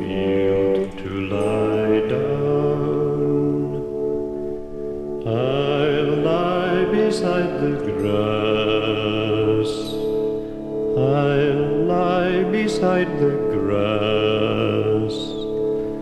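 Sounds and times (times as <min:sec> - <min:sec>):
slow song with drone: 0:00.0 - 0:16.0.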